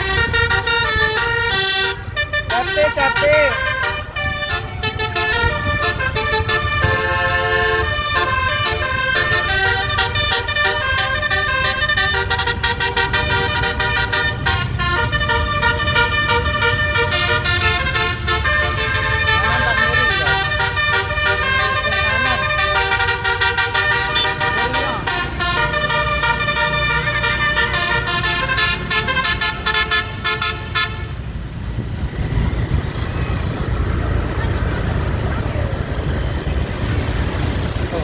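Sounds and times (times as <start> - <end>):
bus horn playing a tune: 0.0 - 31.4.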